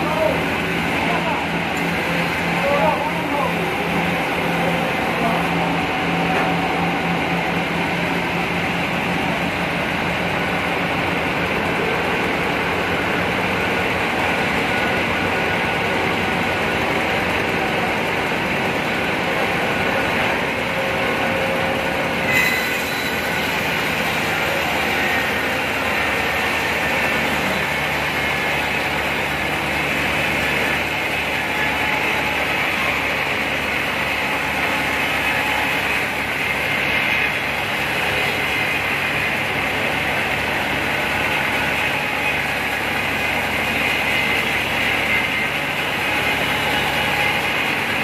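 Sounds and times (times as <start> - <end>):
band saw cutting log: 0.0 - 48.0.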